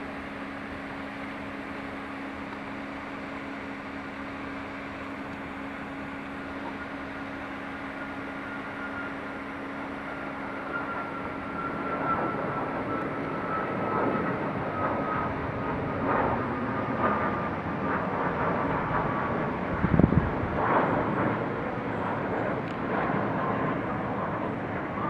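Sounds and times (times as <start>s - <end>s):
jet engines rumbling with whine: 0.0s - 25.0s.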